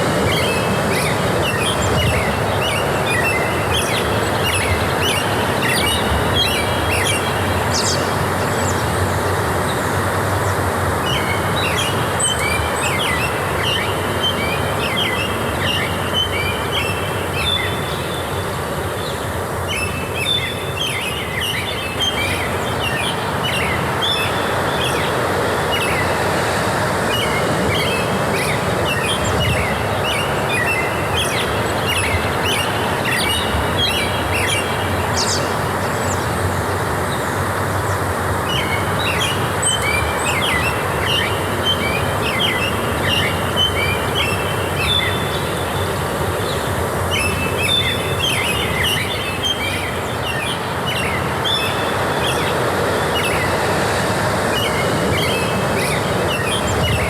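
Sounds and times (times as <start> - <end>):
small birds chirping: 0.0 - 57.0
steady rushing background noise: 0.0 - 57.0.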